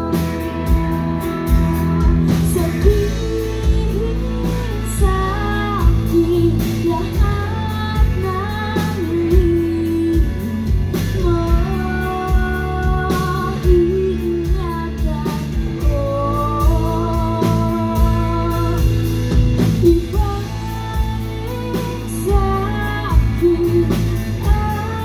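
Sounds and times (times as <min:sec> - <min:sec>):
live band playing: 0:00.0 - 0:25.0
person singing: 0:00.0 - 0:25.0.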